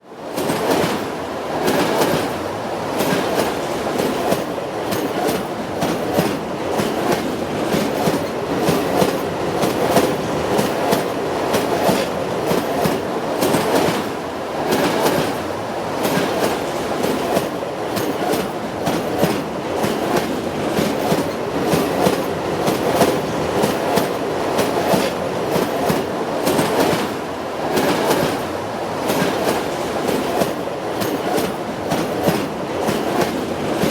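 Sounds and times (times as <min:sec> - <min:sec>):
train wheels clickety-clack: 0:00.1 - 0:33.9
train running rumble: 0:00.3 - 0:33.9.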